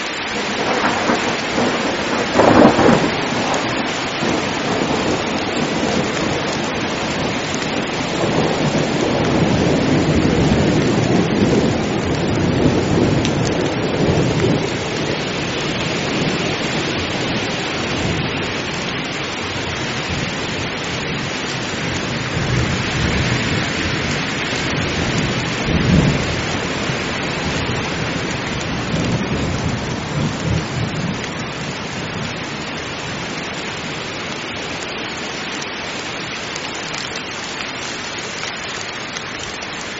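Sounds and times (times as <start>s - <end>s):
heavy rain falling: 0.0s - 39.9s
low rolling thunder: 0.3s - 33.4s.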